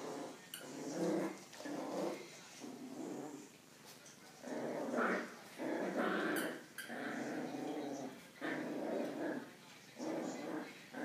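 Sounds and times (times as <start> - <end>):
dogs play-growling: 0.0 - 3.6, 4.3 - 11.0.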